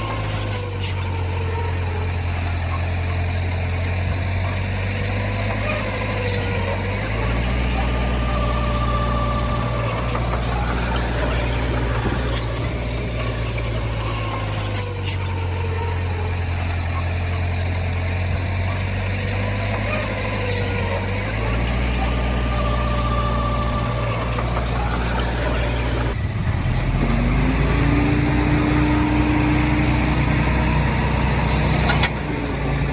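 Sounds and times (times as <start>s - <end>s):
heavy diesel machinery droning: 0.0s - 32.9s.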